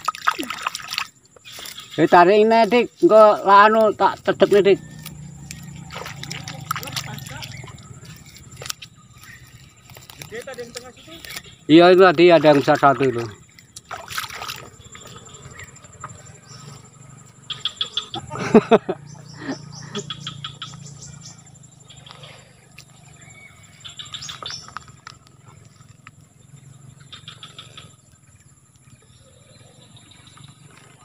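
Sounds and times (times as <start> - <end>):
birds chattering: 0.0 - 31.0
high insect whine: 0.0 - 31.0.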